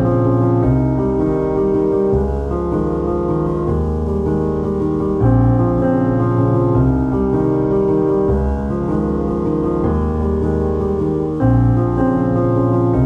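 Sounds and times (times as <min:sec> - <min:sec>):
piano music with held chords: 0:00.0 - 0:13.0.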